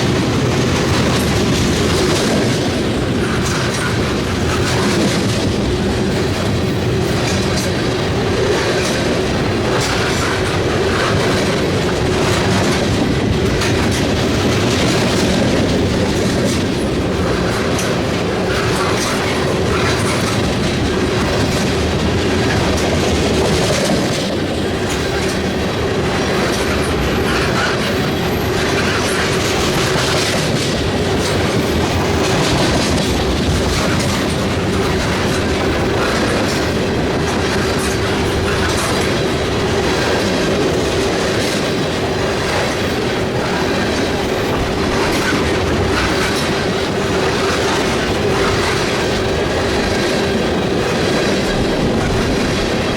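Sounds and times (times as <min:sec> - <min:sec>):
freight train wheels clacking: 0:00.0 - 0:52.9.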